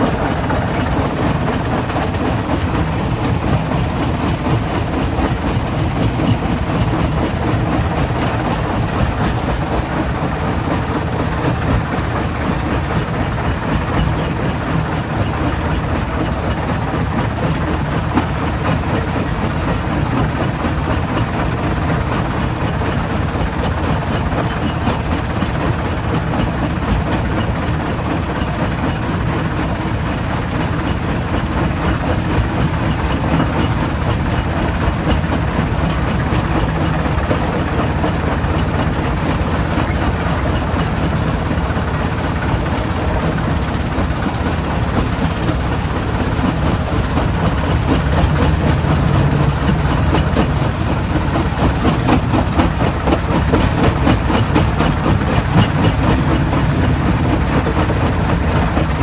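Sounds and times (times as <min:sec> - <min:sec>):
low heavy engine drone: 0:00.0 - 0:59.0.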